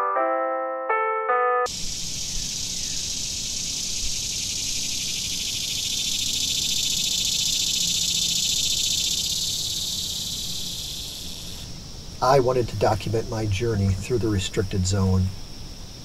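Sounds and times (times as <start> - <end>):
insects trilling chorus: 1.7 - 16.0.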